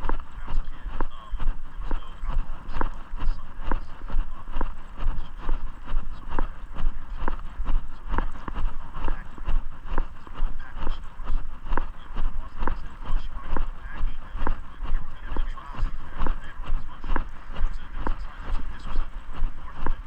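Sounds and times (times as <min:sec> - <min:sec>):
steady low rumble: 0:00.0 - 0:20.0
walking footsteps: 0:00.0 - 0:20.0.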